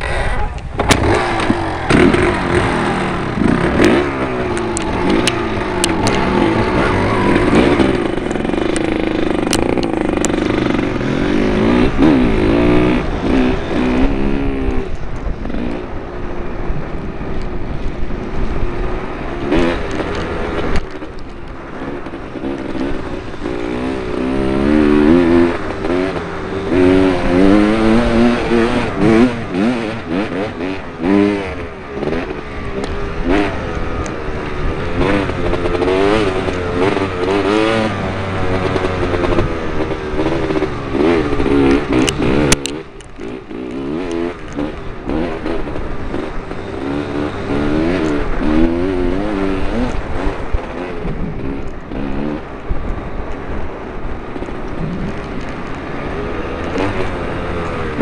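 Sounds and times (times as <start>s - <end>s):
motocross engine revving: 0.0s - 16.0s, 18.4s - 53.2s, 54.1s - 58.0s
second motorbike engine running: 0.0s - 58.0s.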